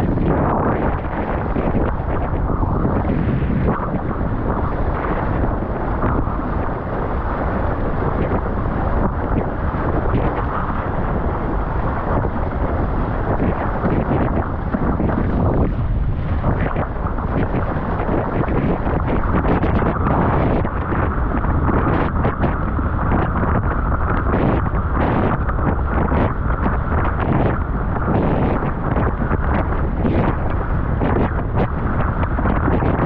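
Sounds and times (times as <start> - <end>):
water rushing under board: 0.0 - 33.0
wind buffeting microphone: 0.0 - 33.0.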